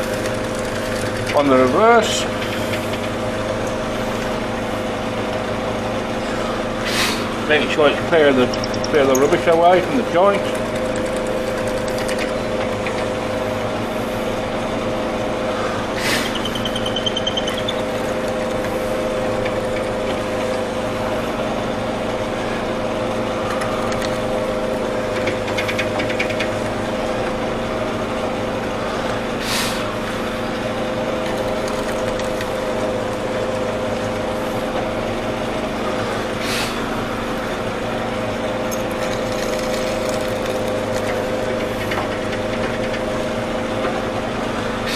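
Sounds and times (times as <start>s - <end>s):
electric motor humming: 0.0s - 44.9s.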